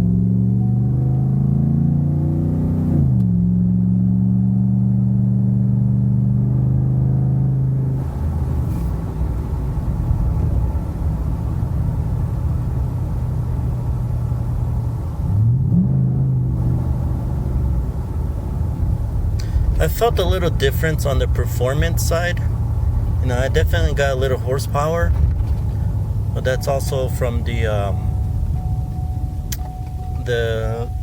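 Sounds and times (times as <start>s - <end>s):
truck engine accelerating: 0.0s - 31.0s.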